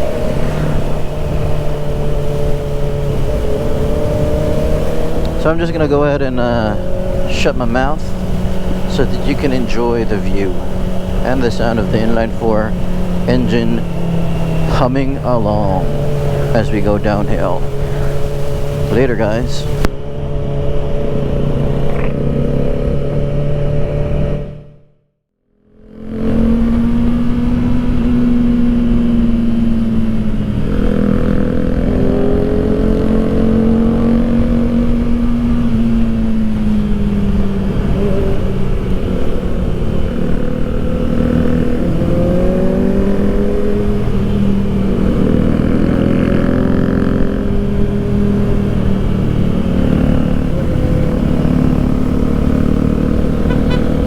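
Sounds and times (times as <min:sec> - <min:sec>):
motorcycle engine running: 0:00.0 - 0:25.0, 0:25.7 - 0:54.0.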